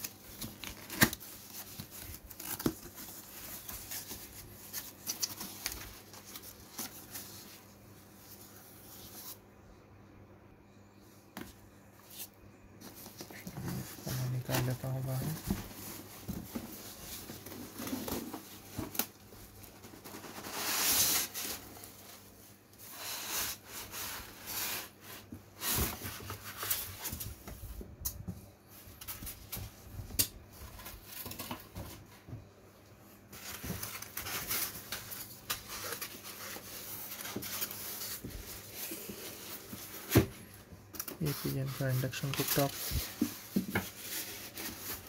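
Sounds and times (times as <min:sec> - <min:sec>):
packaging rustling and scraping: 0:00.0 - 0:09.4, 0:12.0 - 0:27.6, 0:33.2 - 0:45.0.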